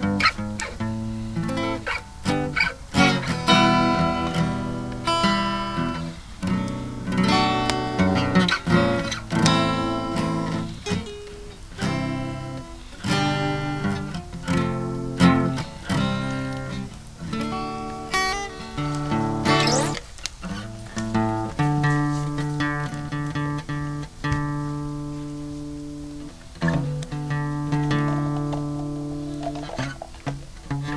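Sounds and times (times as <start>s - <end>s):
acoustic guitar strumming chords: 0.0s - 30.9s.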